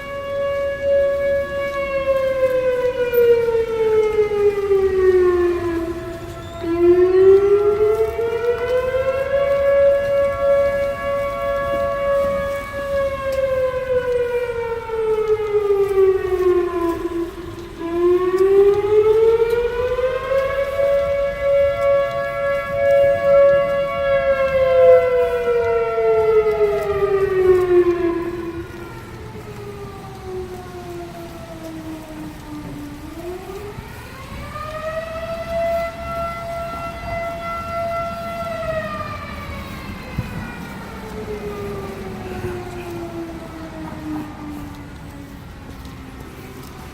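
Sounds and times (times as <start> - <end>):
fire sirens wailing: 0.0 - 46.9.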